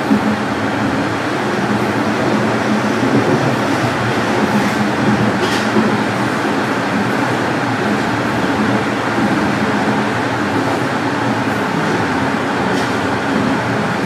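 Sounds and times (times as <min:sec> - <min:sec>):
subway wheels rumbling on rails: 0:00.0 - 0:14.0.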